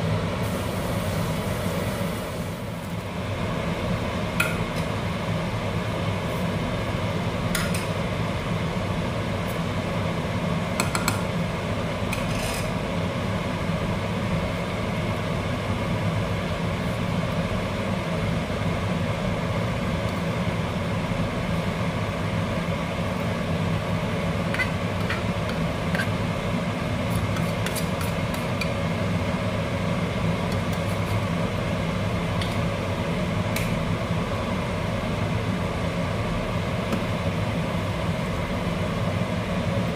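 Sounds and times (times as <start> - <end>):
gas stove hum: 0.0 - 39.9.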